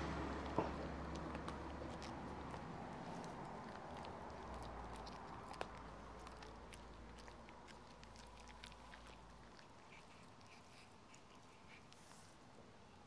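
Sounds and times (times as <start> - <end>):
dog gnawing on bone: 0.0 - 12.2.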